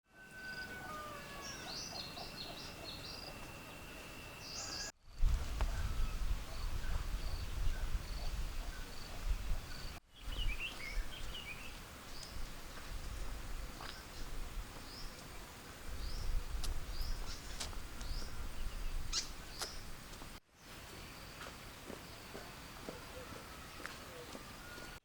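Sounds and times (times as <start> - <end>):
outdoor background noise: 0.0 - 25.0
birds chirping: 0.4 - 25.0.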